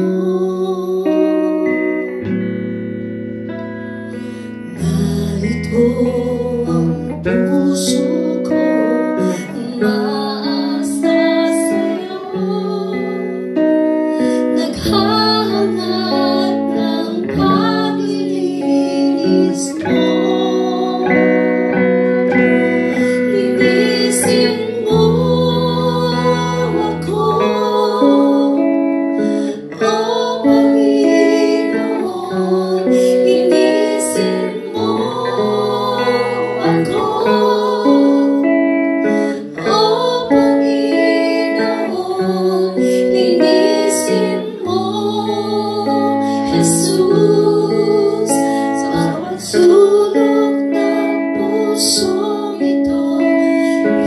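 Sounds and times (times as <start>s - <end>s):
women singing: 0.0s - 2.8s, 4.6s - 54.0s
electric guitar: 0.0s - 54.0s.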